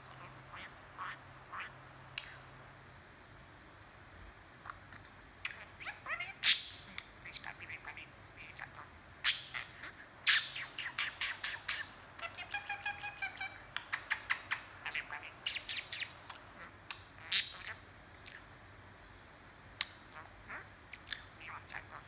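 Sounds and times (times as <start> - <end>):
budgerigar chattering: 0.0 - 2.5, 4.7 - 18.5, 19.8 - 22.0.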